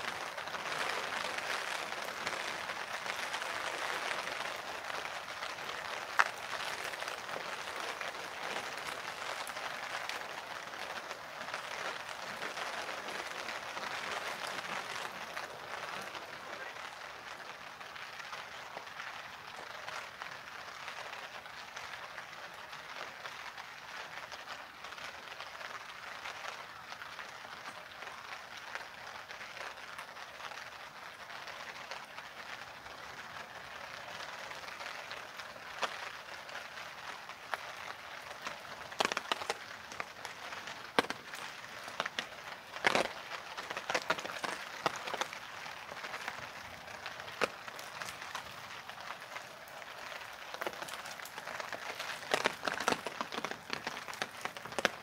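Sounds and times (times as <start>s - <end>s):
rain on plastic umbrella: 0.0s - 55.0s.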